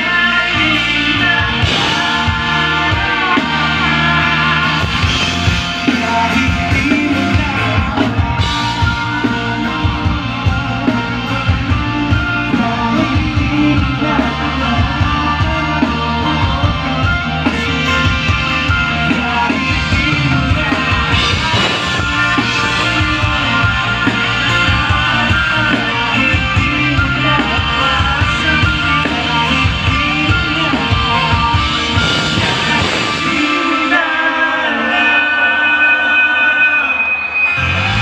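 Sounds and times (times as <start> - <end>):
bass guitar: 0.0 - 35.1, 37.3 - 38.0
drums: 0.0 - 38.0
electric and acoustic guitars: 0.0 - 38.0
person singing: 0.0 - 38.0.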